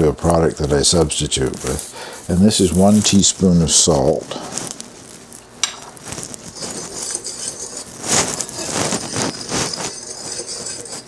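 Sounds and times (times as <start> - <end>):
whisk stirring flour in bowl: 0.2 - 4.7, 5.6 - 11.0.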